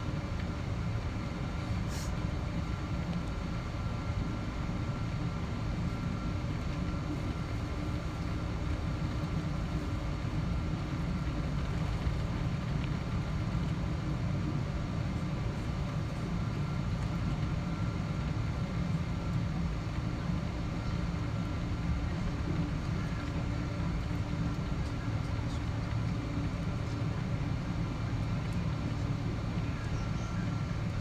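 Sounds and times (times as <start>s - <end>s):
airplane cabin rumble: 0.0s - 31.0s
faint engine whining tones: 0.0s - 31.0s.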